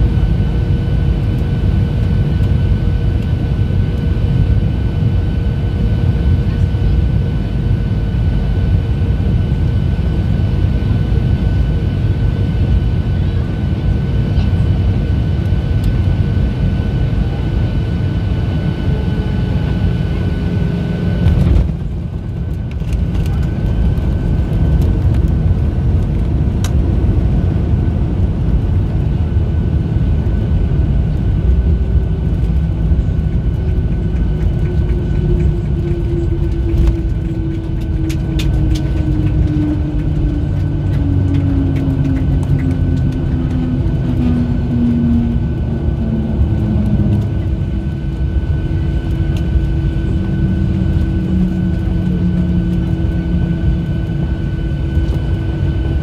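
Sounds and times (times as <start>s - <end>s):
airliner engine and airflow rumble: 0.0s - 56.0s
constant high whine: 0.0s - 56.0s.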